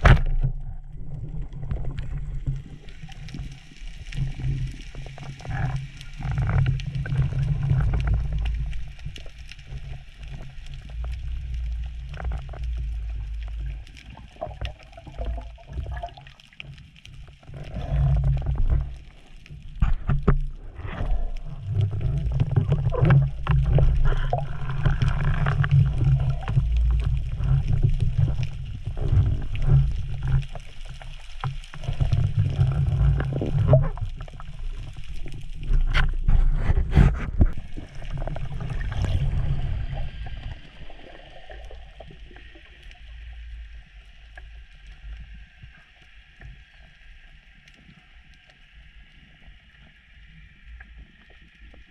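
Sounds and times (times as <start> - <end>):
underwater rumble of moving water: 0.0 - 51.9.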